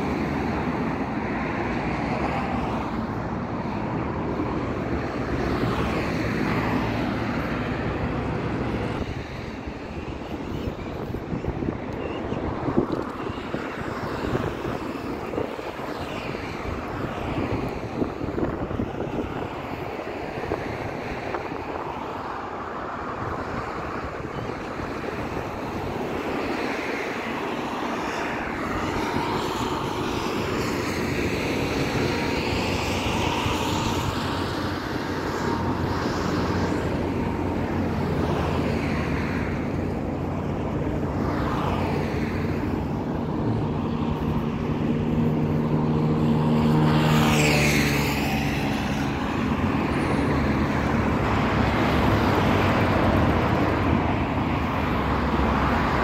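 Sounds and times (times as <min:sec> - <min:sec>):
cars driving past: 0:00.0 - 0:56.0
engine hum: 0:00.0 - 0:56.0.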